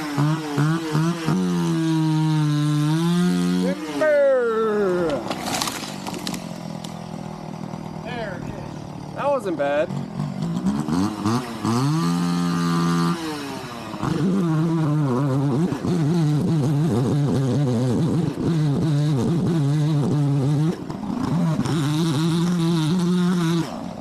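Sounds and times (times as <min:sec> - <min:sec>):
gas chainsaw revving: 0:00.0 - 0:04.2, 0:04.8 - 0:24.0.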